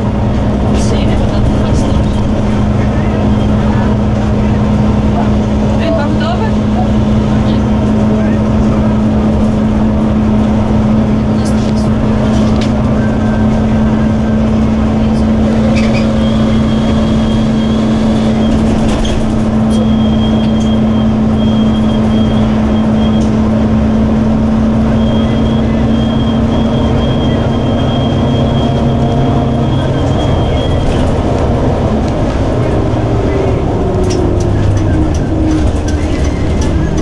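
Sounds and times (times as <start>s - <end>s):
bus engine and road noise: 0.0s - 37.0s.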